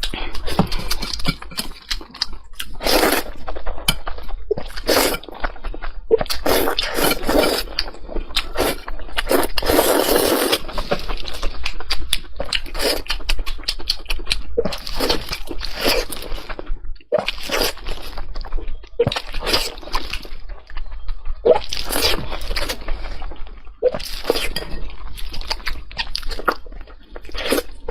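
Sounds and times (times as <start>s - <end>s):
person eating crunchily: 0.0s - 27.9s.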